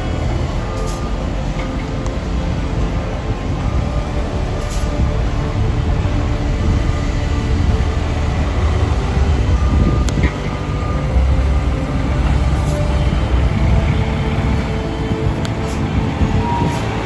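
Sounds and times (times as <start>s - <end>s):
heavy engines rumbling: 0.0s - 17.0s.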